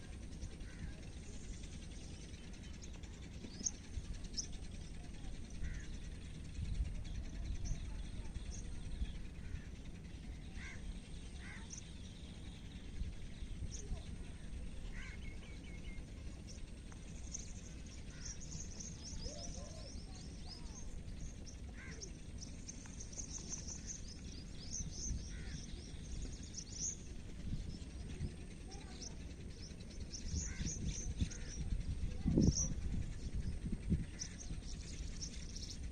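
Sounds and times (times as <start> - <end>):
low background rumble: 0.0 - 35.9
small birds chirping: 0.0 - 35.9.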